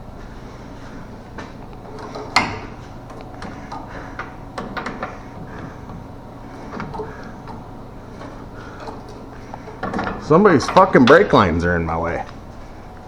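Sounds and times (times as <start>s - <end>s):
low steady hum: 0.0s - 13.0s
hand tools clicking and knocking: 1.4s - 12.6s.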